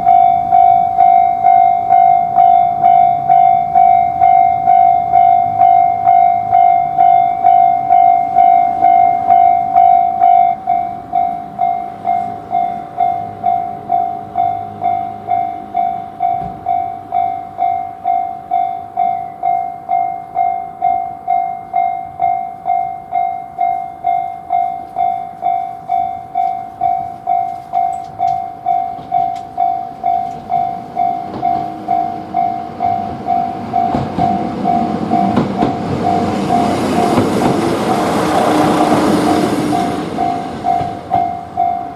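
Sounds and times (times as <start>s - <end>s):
level-crossing warning bell: 0.0s - 41.9s
train rumble: 0.0s - 41.9s.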